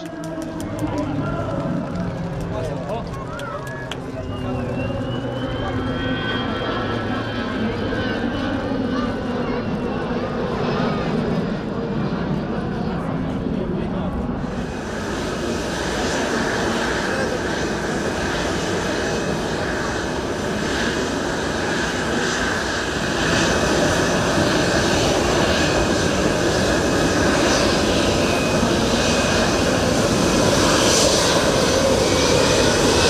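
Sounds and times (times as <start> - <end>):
jet plane flying past: 0.0 - 33.0.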